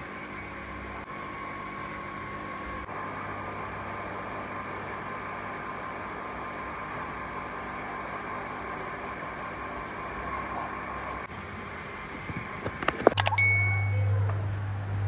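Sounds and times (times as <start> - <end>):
washing machine humming: 0.0 - 15.0.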